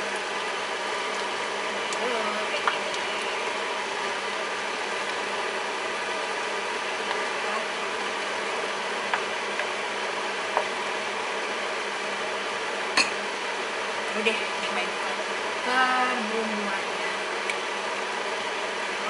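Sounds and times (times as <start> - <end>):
stovetop cooking hiss: 0.0 - 19.0.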